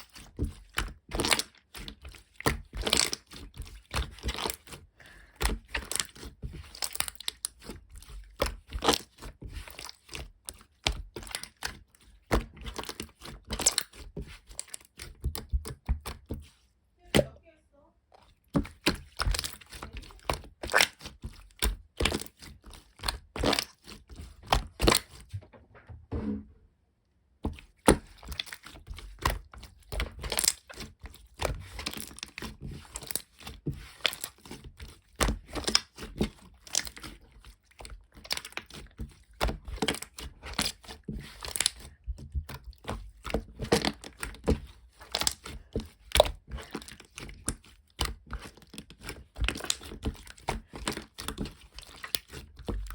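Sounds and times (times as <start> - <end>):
slime squishing with sticky pops: 0.0 - 17.4, 18.1 - 25.4, 27.4 - 52.9.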